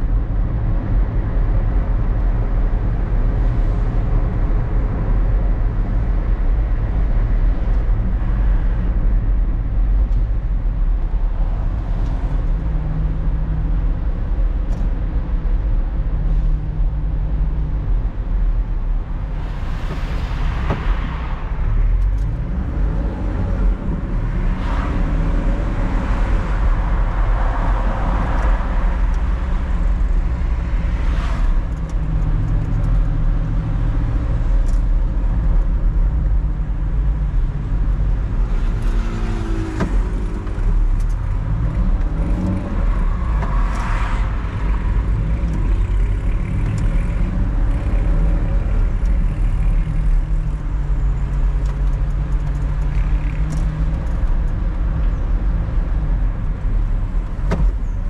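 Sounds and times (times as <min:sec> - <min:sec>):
car engine and road noise: 0:00.0 - 0:58.0
passing vehicles: 0:00.0 - 0:58.0.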